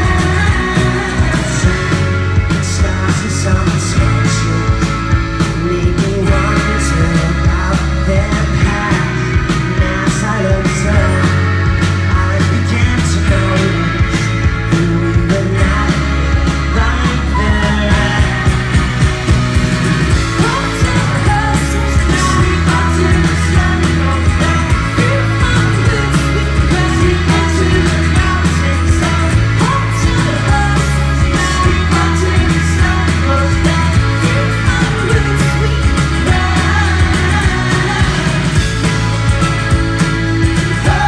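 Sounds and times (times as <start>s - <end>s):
folk rock band playing live: 0.0s - 41.0s
steady bass line: 0.0s - 41.0s
sung vocals: 0.0s - 41.0s.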